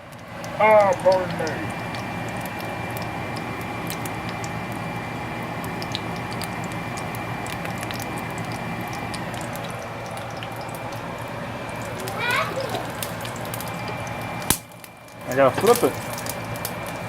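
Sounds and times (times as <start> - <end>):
batter sizzling in oil: 0.0 - 17.0.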